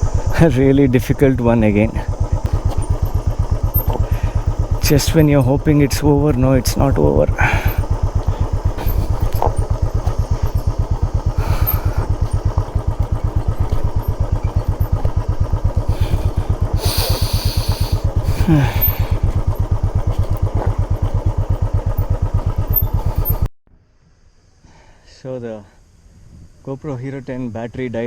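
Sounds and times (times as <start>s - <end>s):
motorcycle engine at low revs: 0.0s - 23.5s.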